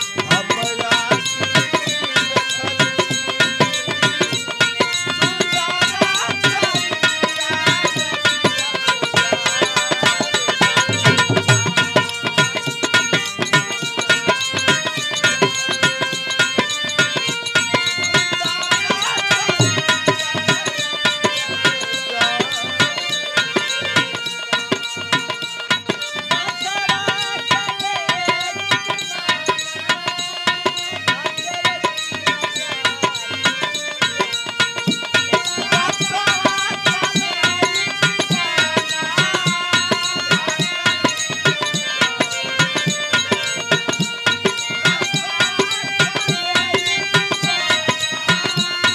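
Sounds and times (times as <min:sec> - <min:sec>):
hand drum fast rhythm: 0:00.0 - 0:48.9
harmonium melody: 0:00.0 - 0:48.9.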